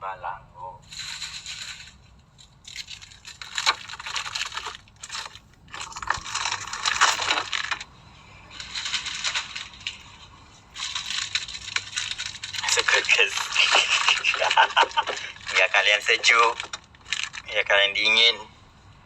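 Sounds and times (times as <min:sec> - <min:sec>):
packaging crinkling and rustling: 0:00.9 - 0:17.6.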